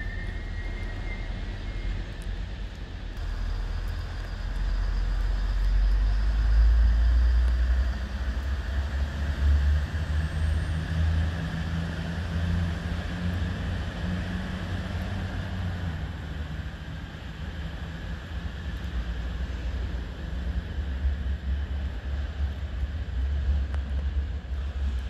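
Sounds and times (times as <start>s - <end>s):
train engine drone: 0.0s - 25.0s.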